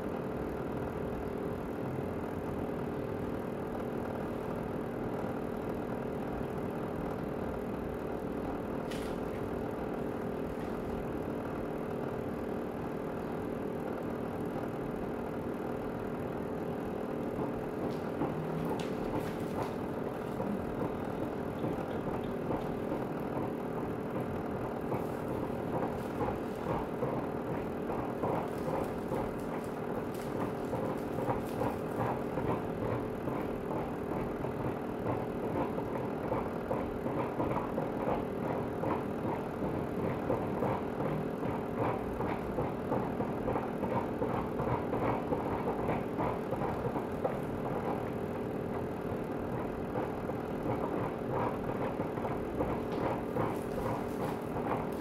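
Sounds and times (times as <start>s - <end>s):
garment steamer humming: 0.0s - 55.0s
steamer crackling: 8.0s - 55.0s.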